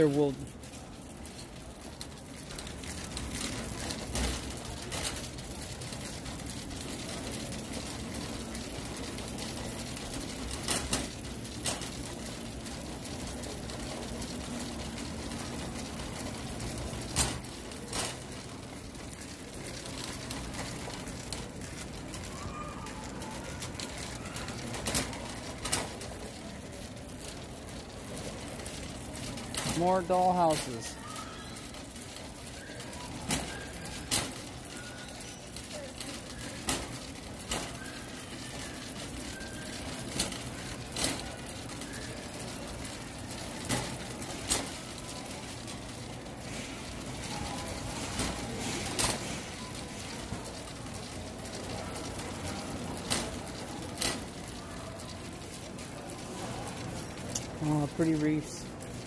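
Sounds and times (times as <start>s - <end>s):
cart clicks and rattles: 0.0s - 59.0s
shopping cart rolling: 0.0s - 59.0s
store background hum: 0.0s - 59.0s.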